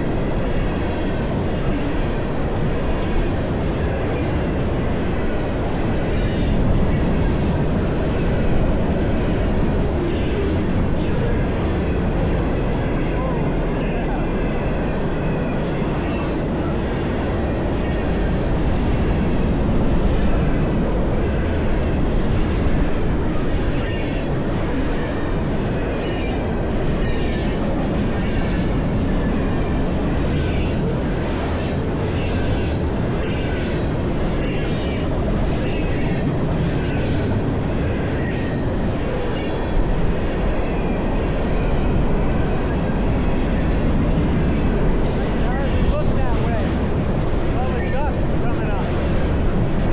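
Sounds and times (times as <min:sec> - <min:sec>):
freight train rumbling on rails: 0:00.0 - 0:49.9.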